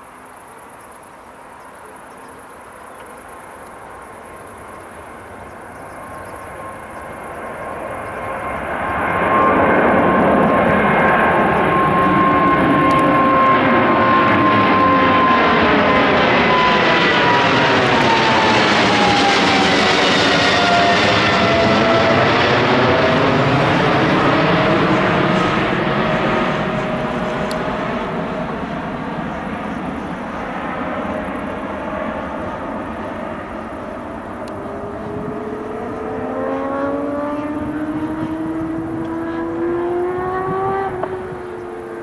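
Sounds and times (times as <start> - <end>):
jet airliner climbing overhead: 0.0 - 42.0.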